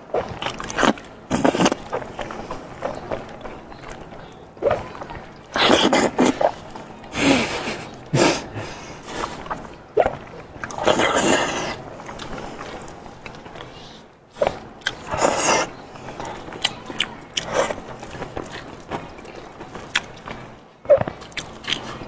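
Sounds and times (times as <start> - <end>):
noisy chewing: 0.0 - 22.0
small mouth clicks: 0.2 - 19.0.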